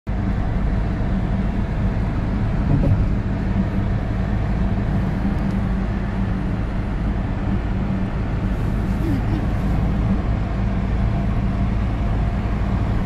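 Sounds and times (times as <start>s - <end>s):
car engine hum: 0.1s - 13.0s
tyre road noise: 0.1s - 13.0s.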